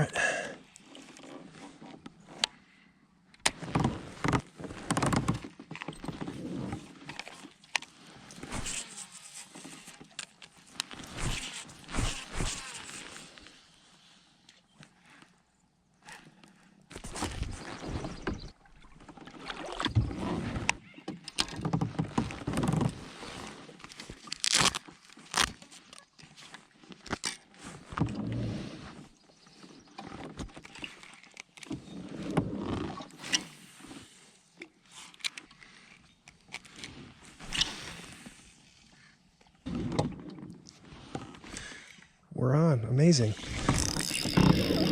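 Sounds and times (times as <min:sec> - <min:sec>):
water swishing along hull: 0:00.6 - 0:15.5, 0:16.1 - 0:42.2, 0:43.4 - 0:44.9.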